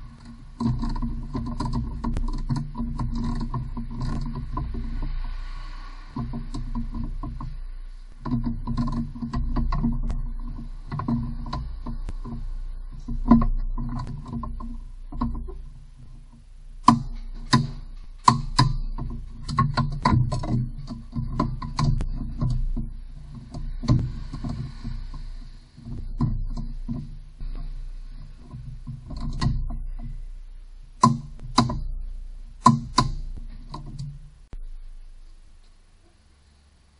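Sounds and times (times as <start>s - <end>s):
metallic clicks and knocks: 0.0s - 35.8s
low rumble: 0.0s - 36.9s.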